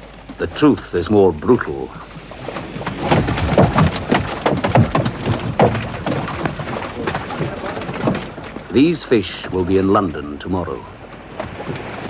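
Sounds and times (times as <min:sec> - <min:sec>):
fish flapping and splashing in water: 0:00.0 - 0:12.0.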